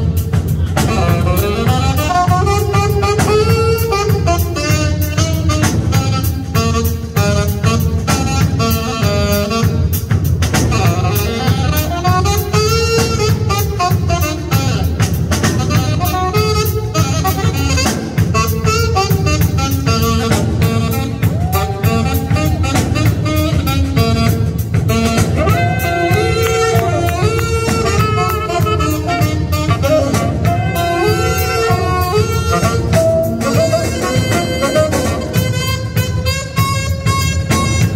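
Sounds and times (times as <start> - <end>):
drum kit keeping time: 0.0 - 37.9
saxophones playing jazz melody: 0.0 - 37.9.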